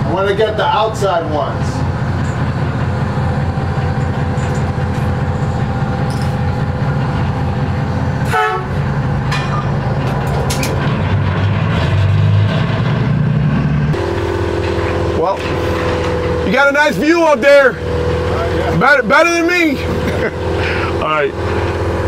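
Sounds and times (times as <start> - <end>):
heavy diesel crane rumbling: 0.0 - 22.0.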